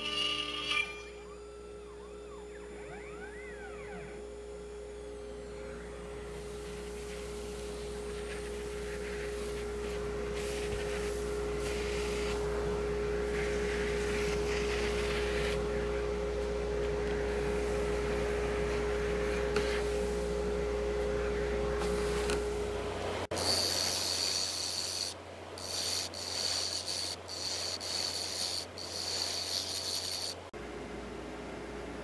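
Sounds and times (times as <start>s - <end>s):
router spindle whine: 0.0s - 30.5s.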